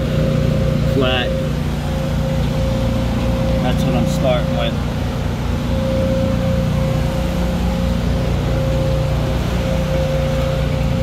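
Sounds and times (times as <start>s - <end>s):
machine droning and humming: 0.0s - 11.0s.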